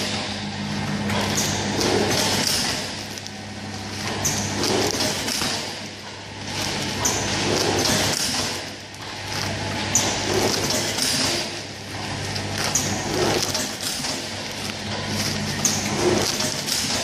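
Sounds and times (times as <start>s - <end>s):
packing machine humming: 0.0s - 17.0s.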